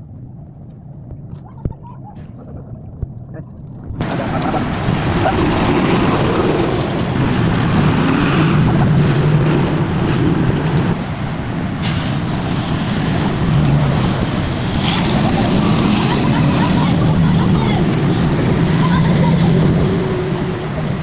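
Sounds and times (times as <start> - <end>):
motorcycle engine running: 4.0 - 21.0.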